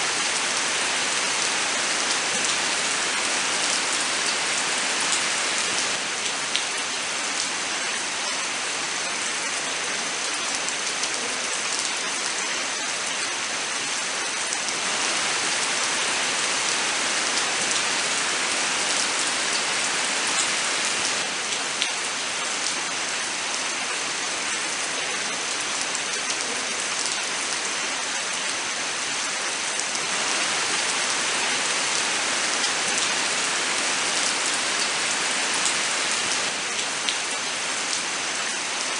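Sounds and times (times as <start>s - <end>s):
rain hissing in forest: 0.0s - 38.9s.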